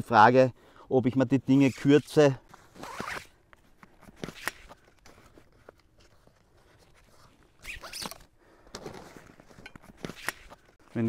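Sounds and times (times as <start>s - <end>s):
nylon strap rasping: 1.5s - 11.0s.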